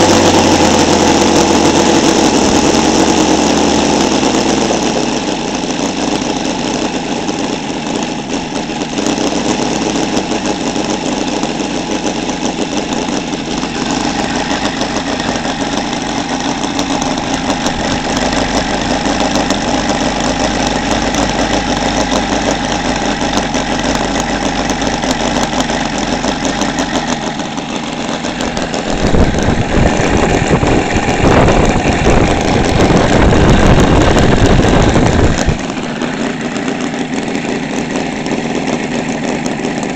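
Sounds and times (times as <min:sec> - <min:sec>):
model radial engine running: 0:00.0 - 0:39.9.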